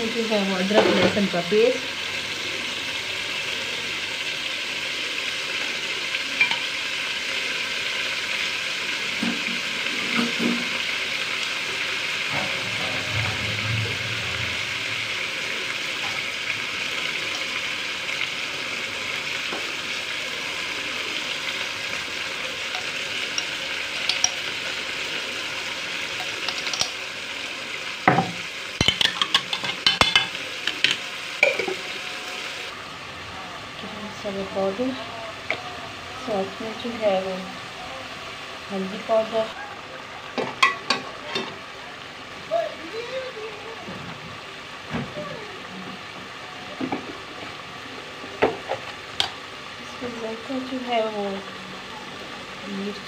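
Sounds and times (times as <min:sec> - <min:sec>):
vegetables sizzling in a pot: 0:00.0 - 0:53.0.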